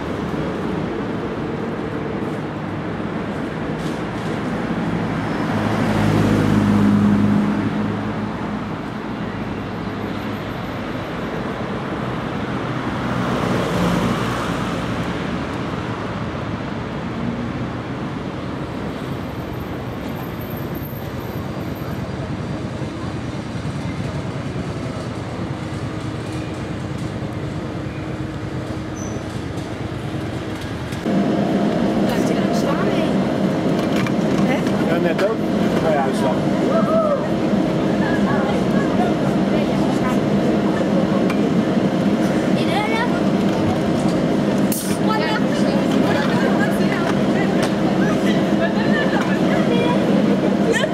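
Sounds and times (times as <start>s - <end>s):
electric tram hum: 0.0s - 50.9s
street traffic: 0.0s - 50.9s.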